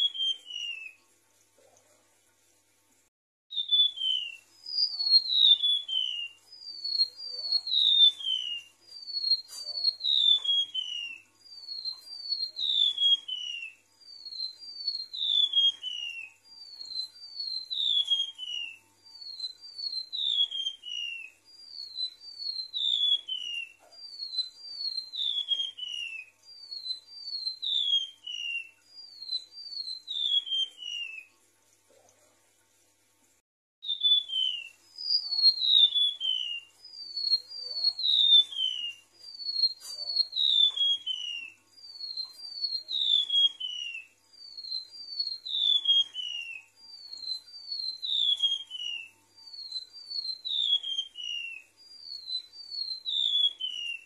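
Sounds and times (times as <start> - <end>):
bird song high whistled notes: 0.0 - 1.0, 3.5 - 31.4, 33.8 - 54.0.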